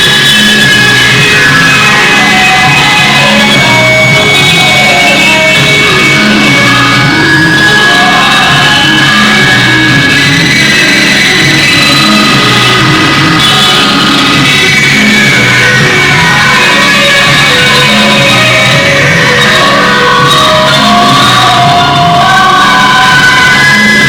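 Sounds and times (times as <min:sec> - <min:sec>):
distorted electric guitar: 0:00.0 - 0:24.0
drums: 0:00.0 - 0:24.0.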